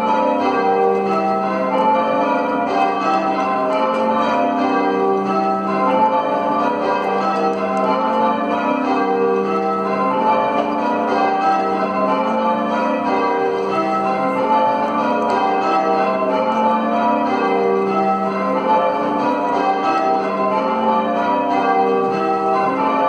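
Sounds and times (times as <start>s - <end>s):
church bells ringing: 0.0s - 23.0s.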